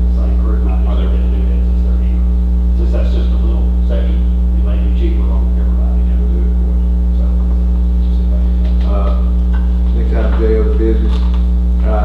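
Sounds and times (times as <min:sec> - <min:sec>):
electrical mains hum: 0:00.0 - 0:12.0
faint murmuring voices: 0:00.0 - 0:12.0.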